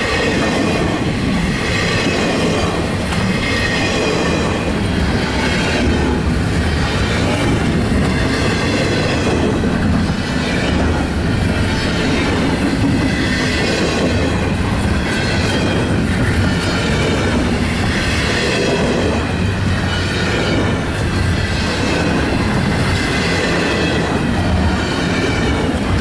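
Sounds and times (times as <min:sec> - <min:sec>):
railroad cars rolling past: 0:00.0 - 0:26.0.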